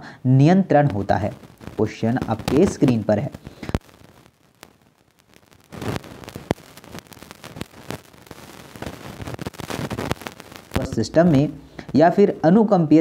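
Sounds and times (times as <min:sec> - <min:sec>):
sharp clicks and crackling: 0:00.9 - 0:12.1.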